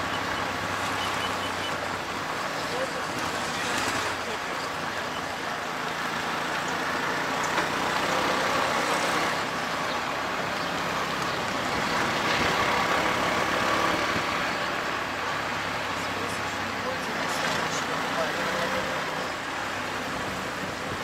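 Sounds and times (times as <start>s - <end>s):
auto-rickshaw engine running: 0.0s - 21.0s
wind and road noise: 0.0s - 21.0s.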